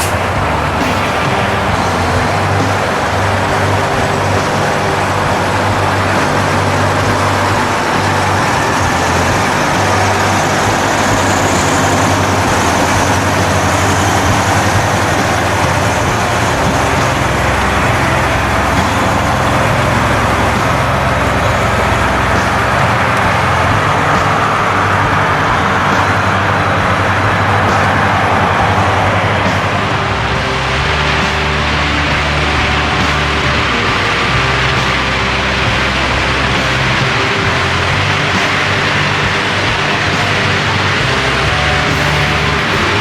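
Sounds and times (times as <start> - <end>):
tracked vehicle engine droning: 0.0 - 43.0.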